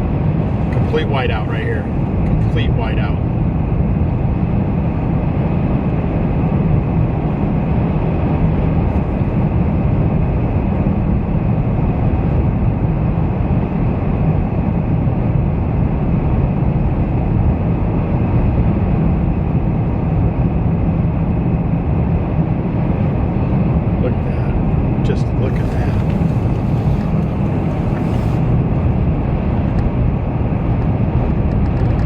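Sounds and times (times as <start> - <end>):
car cabin road rumble: 0.0 - 32.0.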